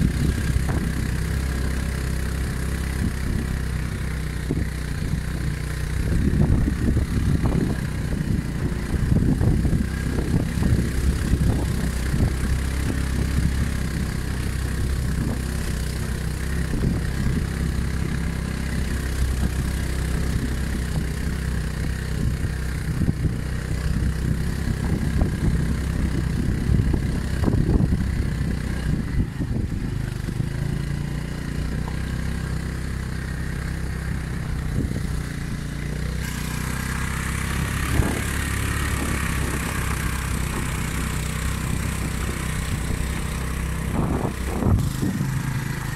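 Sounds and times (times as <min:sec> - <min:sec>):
small motorbike engine running: 0:00.0 - 0:45.9.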